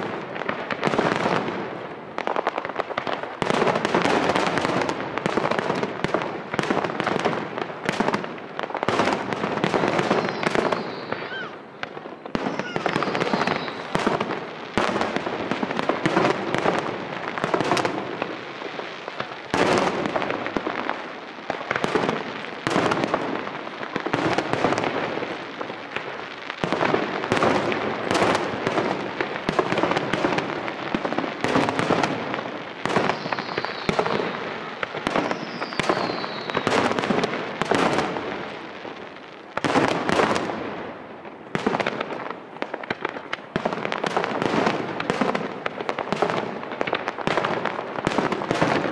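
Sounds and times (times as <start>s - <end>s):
fireworks falling whistles: 0.0s - 40.9s
fireworks bursting: 0.0s - 48.9s.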